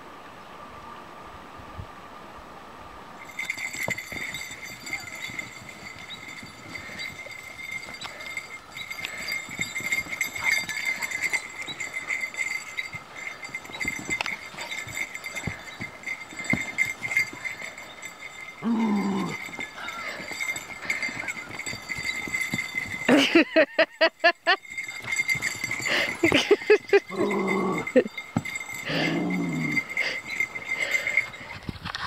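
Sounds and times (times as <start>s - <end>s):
paws and feet thumping on dirt: 3.3s - 23.4s, 24.6s - 32.0s.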